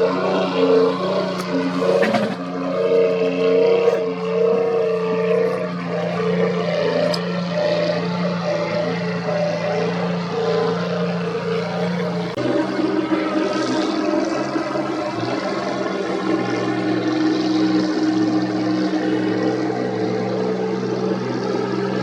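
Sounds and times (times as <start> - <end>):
boat engines droning: 0.0 - 22.0.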